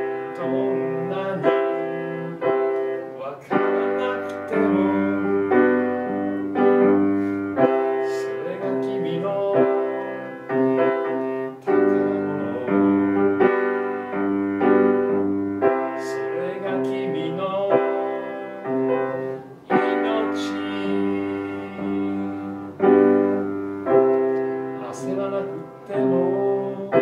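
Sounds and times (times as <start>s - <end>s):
piano playing slow chords: 0.0s - 27.0s.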